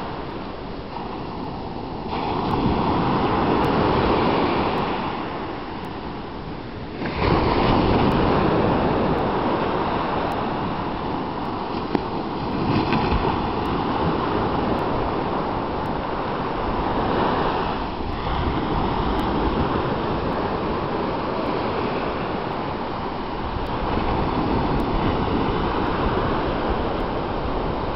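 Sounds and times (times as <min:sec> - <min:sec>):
sea waves washing up a beach: 0:00.0 - 0:27.9.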